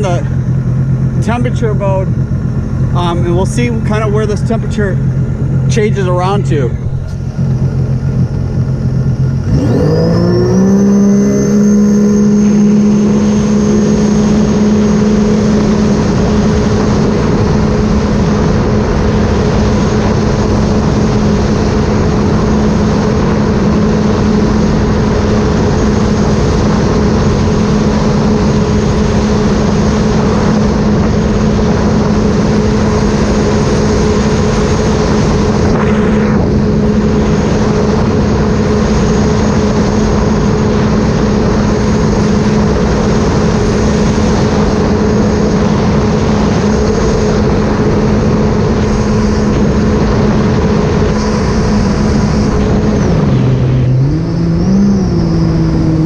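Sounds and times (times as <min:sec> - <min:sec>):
thin high whine: 0:00.0 - 0:18.7, 0:21.8 - 0:56.0
personal watercraft engine: 0:00.0 - 0:56.0.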